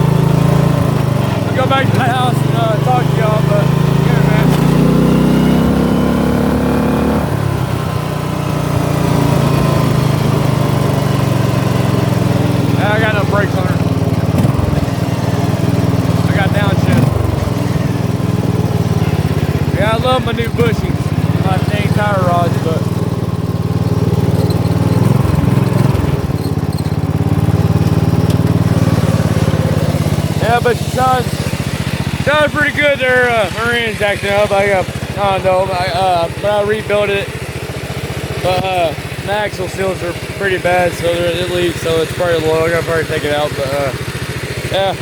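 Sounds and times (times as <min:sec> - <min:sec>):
riding mower engine running: 0:00.0 - 0:45.0.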